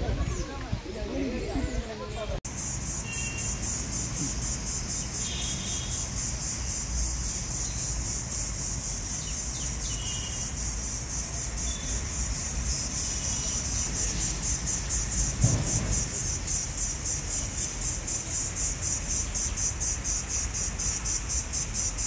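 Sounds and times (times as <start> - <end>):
insects chirring: 0.1 - 22.0.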